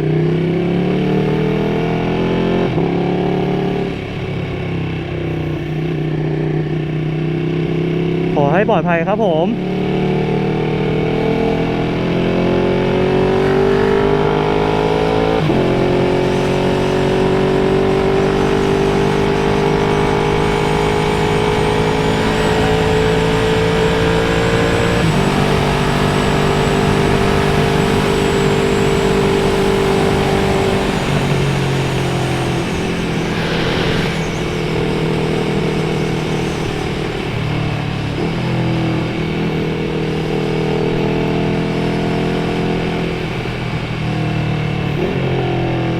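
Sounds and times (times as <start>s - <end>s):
motorcycle engine accelerating: 0.0s - 45.9s
wind and road noise: 0.0s - 45.9s.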